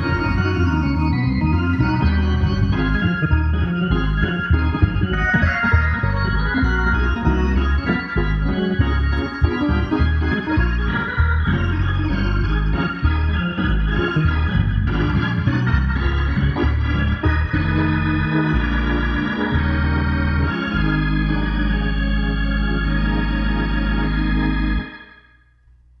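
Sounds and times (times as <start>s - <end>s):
organ playing chords: 0.0s - 25.5s.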